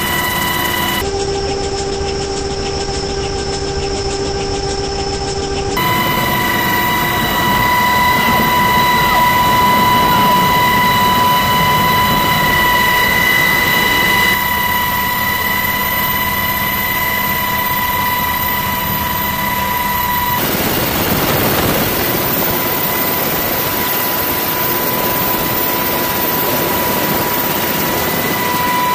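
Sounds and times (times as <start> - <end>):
helicopter engine and rotor drone: 0.0 - 28.9
high whine: 0.0 - 28.9.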